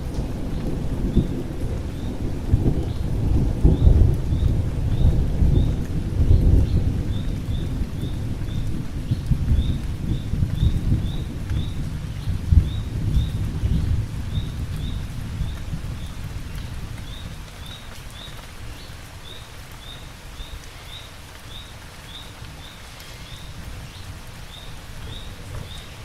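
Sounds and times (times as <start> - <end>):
low thunder rumble: 0.0 - 18.8, 22.6 - 26.0
steady rain: 0.0 - 26.0.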